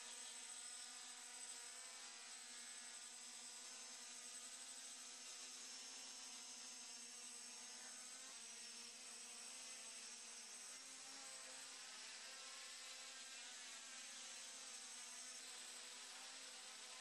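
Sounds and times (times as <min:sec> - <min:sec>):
quadcopter motors buzzing: 0:00.0 - 0:17.0.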